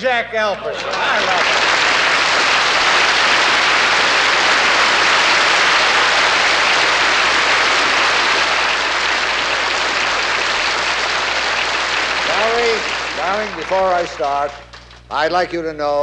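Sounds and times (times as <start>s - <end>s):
audience applauding: 0.6s - 15.4s.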